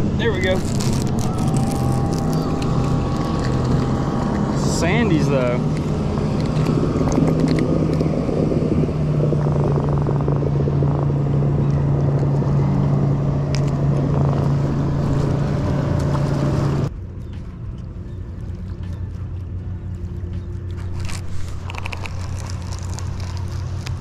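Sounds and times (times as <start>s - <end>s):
motorboat engine humming: 0.0s - 24.0s
water noise: 0.0s - 24.0s
wind: 0.0s - 24.0s.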